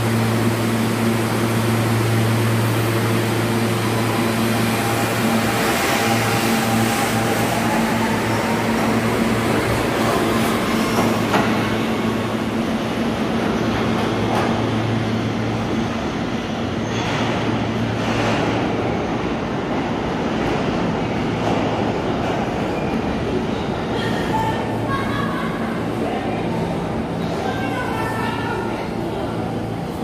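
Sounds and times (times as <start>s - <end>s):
subway train wheels rushing on rail: 0.0s - 30.0s.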